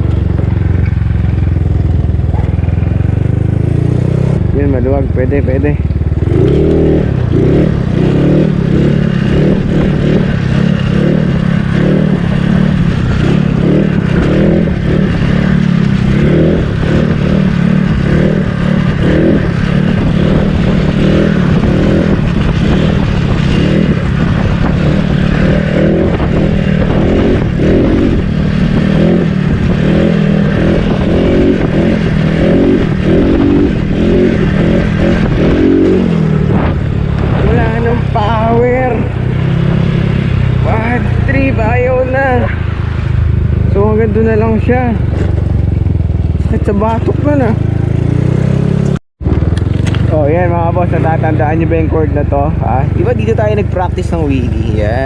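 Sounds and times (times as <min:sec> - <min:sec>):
scooter engine running: 0:00.0 - 0:55.0
wind buffeting microphone: 0:00.0 - 0:55.0.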